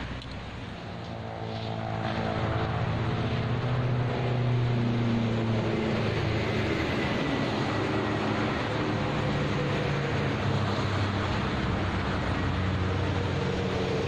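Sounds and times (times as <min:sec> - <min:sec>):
heavy vehicle engine hum: 0:00.0 - 0:14.0
road traffic noise: 0:00.0 - 0:14.0.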